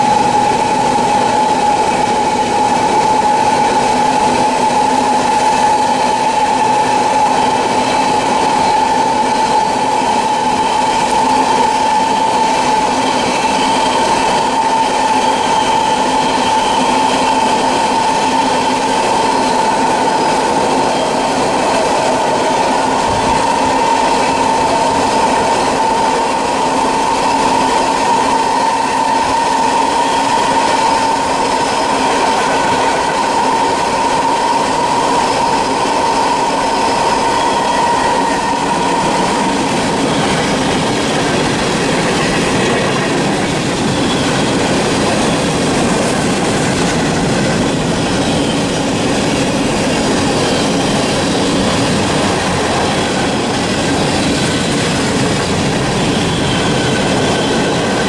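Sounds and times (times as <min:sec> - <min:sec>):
train wheels on rails clattering: 0:00.0 - 0:58.0.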